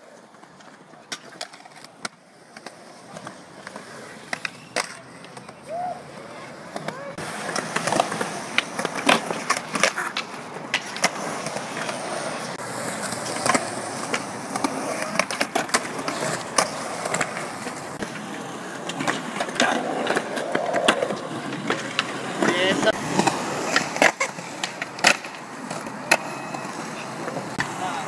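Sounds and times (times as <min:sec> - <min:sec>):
skateboards clacking on ground: 0:00.0 - 0:28.0
skateboards rolling on concrete: 0:00.0 - 0:28.0.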